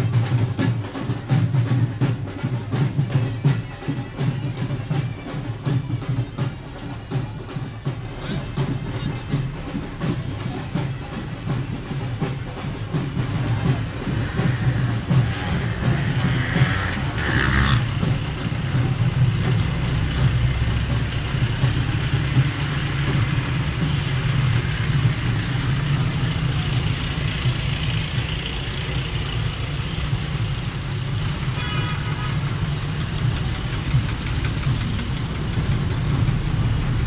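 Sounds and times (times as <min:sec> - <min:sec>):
truck engines rumbling: 0:00.0 - 0:37.0.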